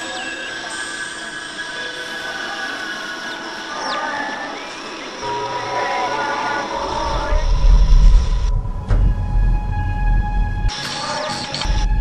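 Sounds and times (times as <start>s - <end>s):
metallic drone: 0.6s - 12.0s.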